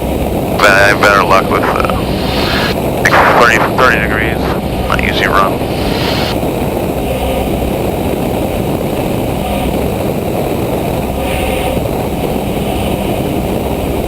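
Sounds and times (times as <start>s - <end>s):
airplane engine drone in cabin: 0.0s - 14.0s.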